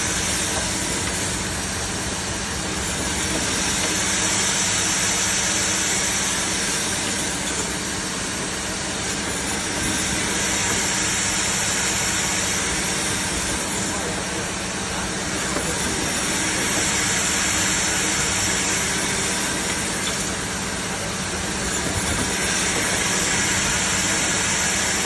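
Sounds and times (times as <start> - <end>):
band saw hissing: 0.0 - 25.0.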